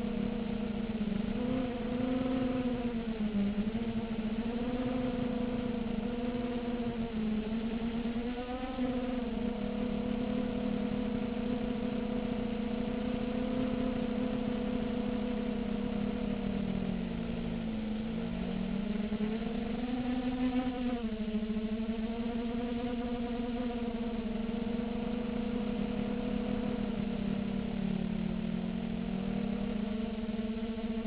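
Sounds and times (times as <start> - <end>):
quadcopter propellers whining: 0.0 - 31.0.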